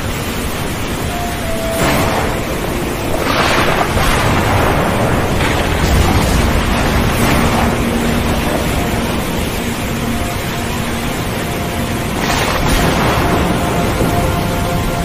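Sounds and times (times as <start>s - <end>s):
waves surging: 0.0s - 15.0s
wind blowing: 0.0s - 15.0s.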